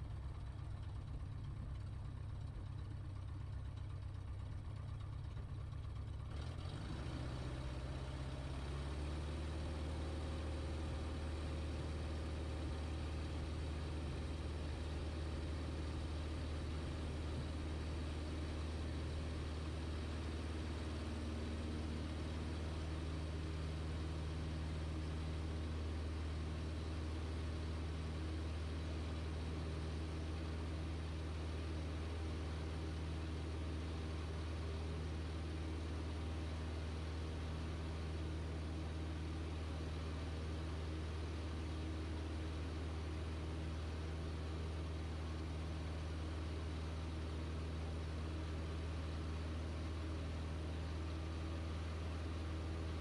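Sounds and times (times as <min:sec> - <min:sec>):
light aircraft propeller engine: 0:00.0 - 0:53.0.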